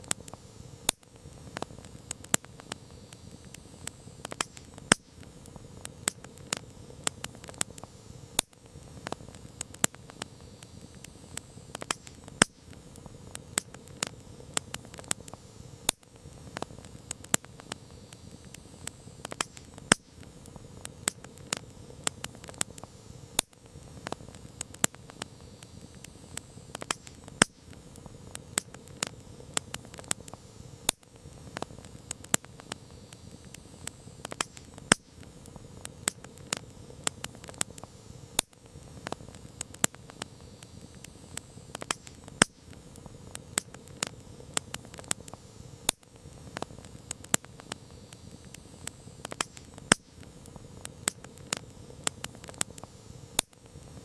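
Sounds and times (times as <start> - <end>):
campfire crackling and popping: 0.0 - 54.0
low hiss of flames: 0.0 - 54.0.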